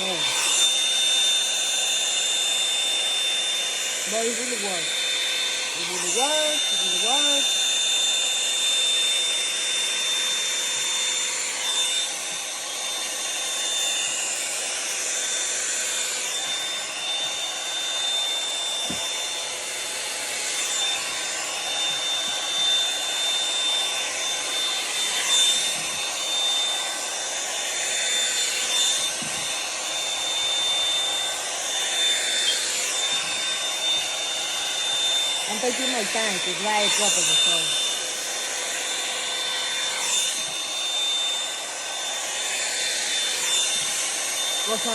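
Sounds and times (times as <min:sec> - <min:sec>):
hot-air brush motor whine: 0:00.0 - 0:44.9.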